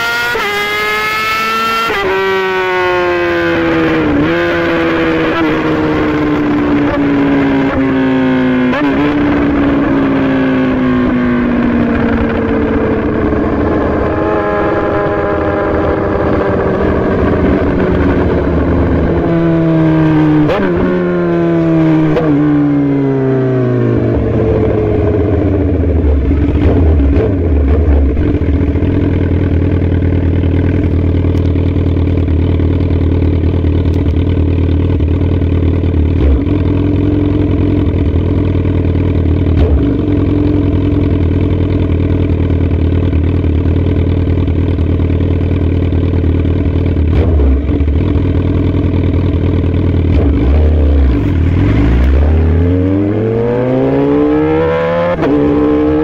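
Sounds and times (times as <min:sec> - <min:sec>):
motorcycle engine downshifting: 0:00.0 - 0:56.0.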